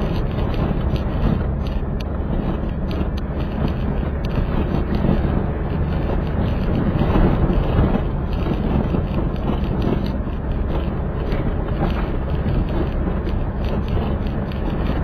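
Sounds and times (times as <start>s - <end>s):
car engine: 0.0s - 15.0s
light clicks and rattles: 0.0s - 15.0s
road noise: 0.0s - 15.0s.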